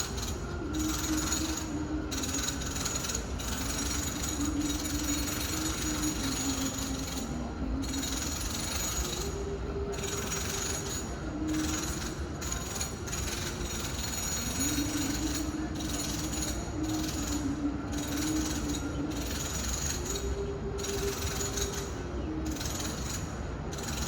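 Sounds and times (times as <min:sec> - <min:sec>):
steady wavering hum: 0:00.0 - 0:24.0.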